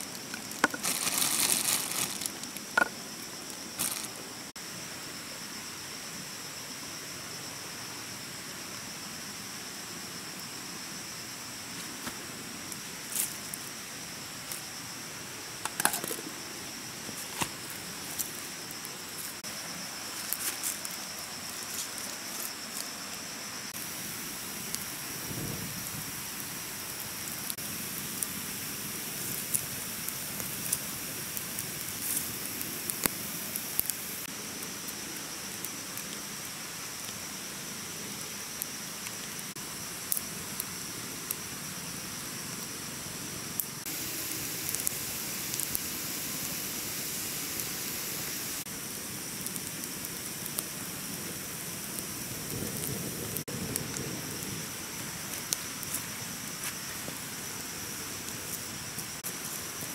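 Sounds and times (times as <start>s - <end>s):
campfire crackling: 0.0s - 4.7s, 9.8s - 59.9s.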